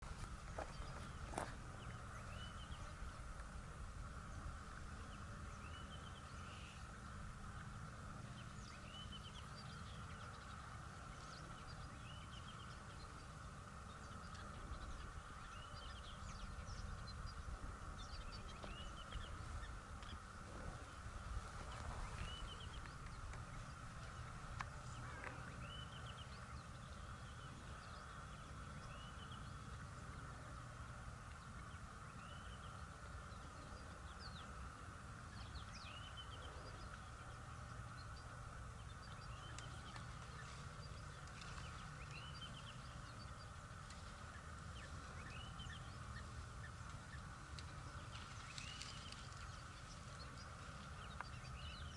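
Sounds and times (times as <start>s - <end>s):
birds calling with rising notes: 0.0s - 51.9s.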